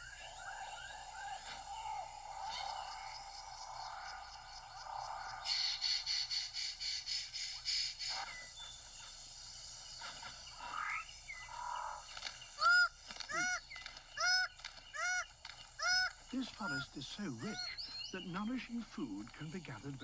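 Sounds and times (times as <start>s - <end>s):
pulsing high bird trill: 0.0s - 19.2s
nasal bird calls: 0.0s - 20.0s.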